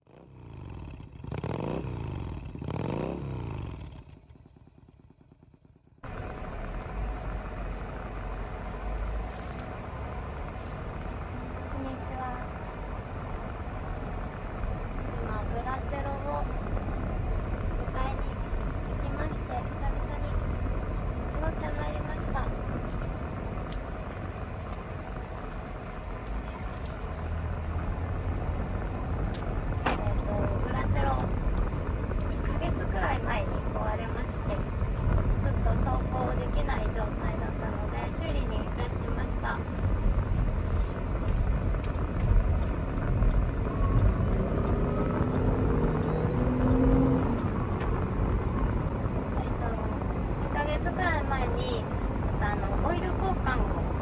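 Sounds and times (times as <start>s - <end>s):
engine revving and idling: 0.0s - 54.0s
motor vehicle rumbling on the move: 0.0s - 54.0s.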